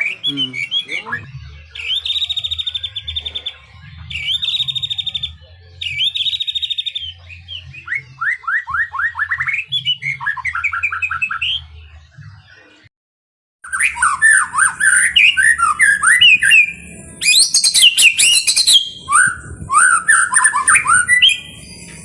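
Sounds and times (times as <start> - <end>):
bird singing trills and whistles: 0.0 - 11.8, 13.6 - 22.0.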